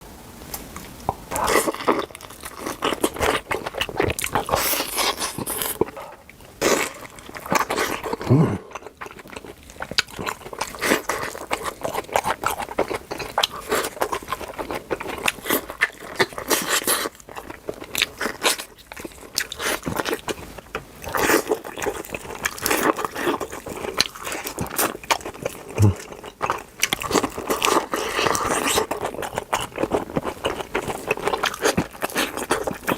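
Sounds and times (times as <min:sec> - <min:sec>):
crunchy food chewing: 0:00.5 - 0:32.9.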